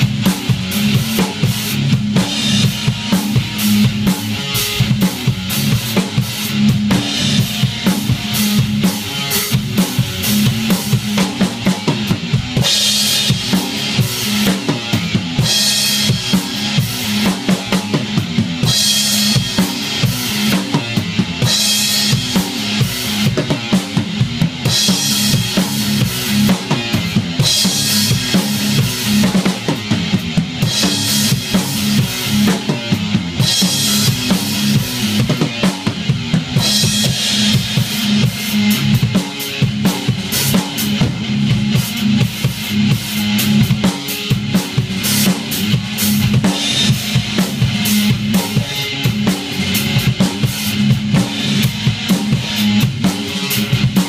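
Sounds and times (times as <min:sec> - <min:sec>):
drum kit played fast: 0:00.0 - 0:54.0
electric guitar: 0:00.0 - 0:54.0.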